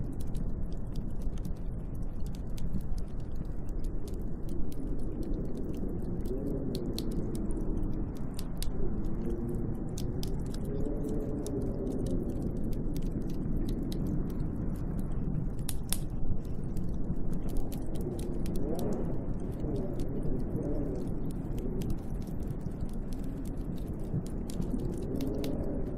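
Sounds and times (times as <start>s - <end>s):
small sharp ticks and crackles: 0.0s - 25.9s
snowstorm wind blowing: 0.0s - 25.9s.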